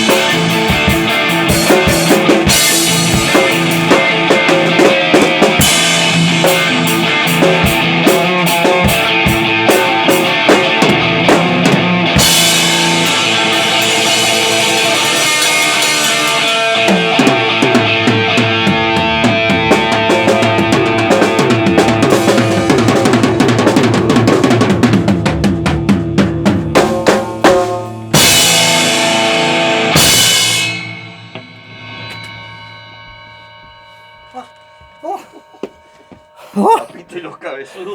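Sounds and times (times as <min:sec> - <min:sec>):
heavy rock music: 0:00.0 - 0:35.1
loud drum kit: 0:00.0 - 0:35.2.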